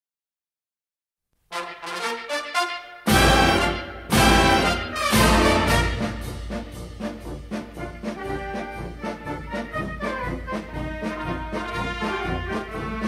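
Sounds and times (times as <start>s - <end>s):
brass band playing a march: 1.5s - 13.0s.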